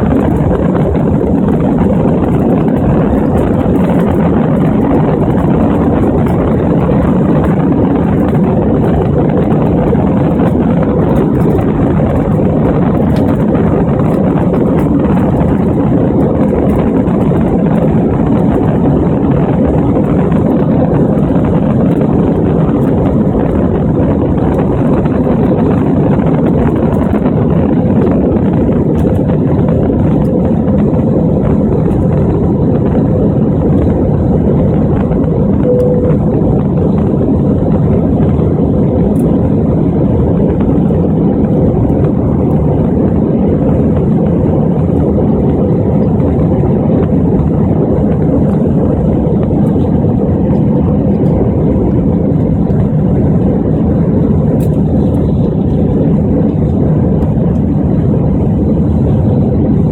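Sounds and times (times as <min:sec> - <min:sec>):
jet cabin engine and airflow noise: 0:00.0 - 0:59.9.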